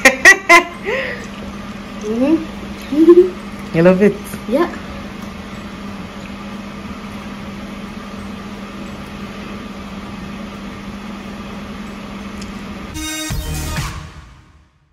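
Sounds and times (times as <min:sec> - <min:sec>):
kitchen appliance humming: 0:00.0 - 0:13.0.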